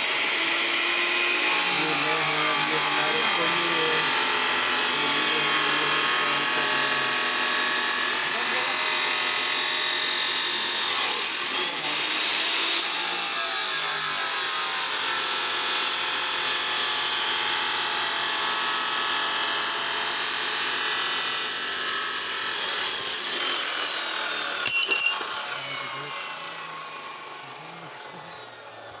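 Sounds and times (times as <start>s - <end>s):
power tool motor whine: 0.0s - 29.0s.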